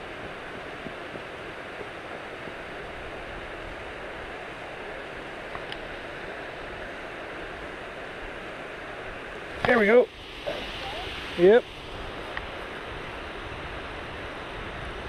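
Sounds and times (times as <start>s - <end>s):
water rushing over spillway: 0.0s - 15.0s.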